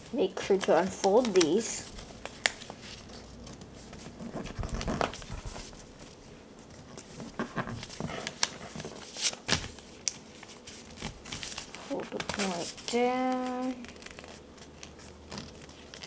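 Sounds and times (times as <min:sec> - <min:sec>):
paper rustling and crackling: 0:00.0 - 0:16.0.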